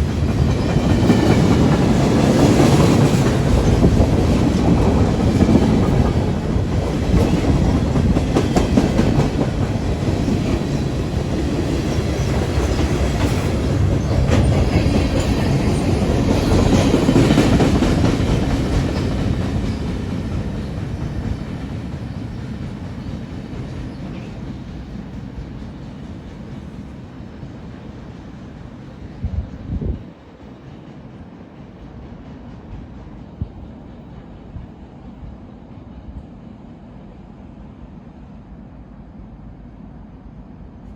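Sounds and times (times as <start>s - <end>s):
train wheels clacking on rails: 0.0s - 36.2s.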